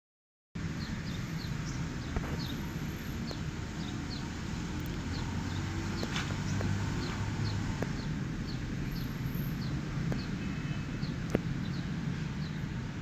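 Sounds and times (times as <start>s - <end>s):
low outdoor rumble: 0.6s - 13.0s
small bird chirping: 0.8s - 12.6s.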